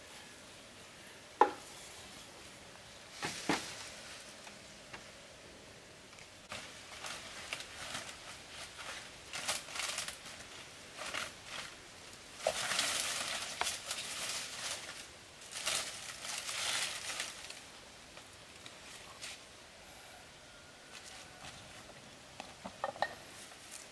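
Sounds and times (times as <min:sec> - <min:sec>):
bamboo poles rustling and scraping: 0:00.0 - 0:05.3, 0:06.0 - 0:23.9.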